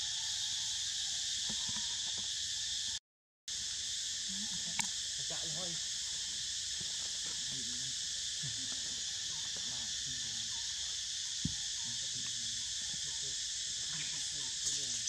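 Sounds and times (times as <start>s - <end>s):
insect chorus droning: 0.0s - 15.0s.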